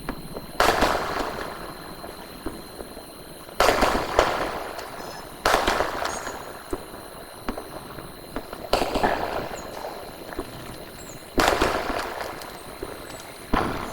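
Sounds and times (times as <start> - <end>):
fireworks loud bangs: 0.0 - 13.9
fireworks sharp pops: 0.0 - 13.9.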